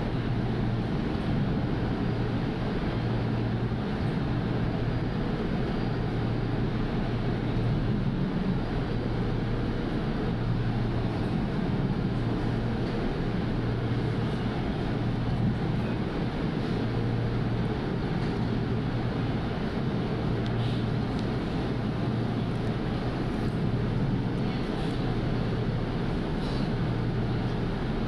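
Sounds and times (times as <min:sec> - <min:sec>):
train carriage rumble: 0:00.0 - 0:28.0.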